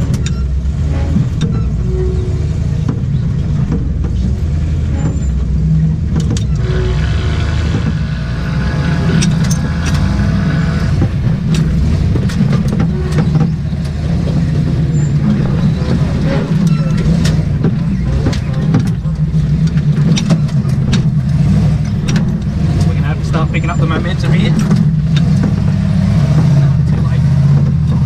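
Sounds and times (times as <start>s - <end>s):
vehicle body knocks and clatters: 0.0s - 6.6s, 7.6s - 8.3s, 9.1s - 28.0s
engine running at low revs: 0.0s - 28.0s.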